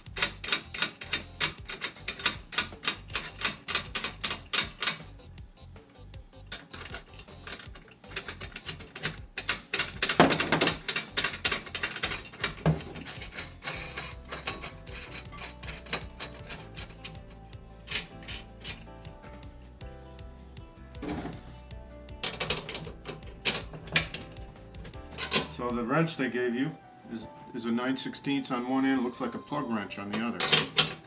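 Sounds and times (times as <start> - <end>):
rapid metallic clicking: 0.0 - 19.5, 21.0 - 25.8, 30.1 - 31.0.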